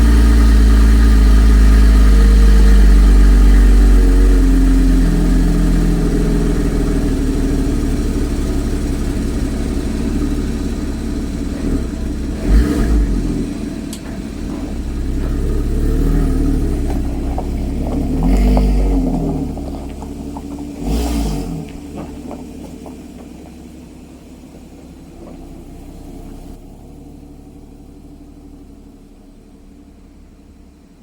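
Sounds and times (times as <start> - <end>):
car engine fast idle: 0.0 - 31.0.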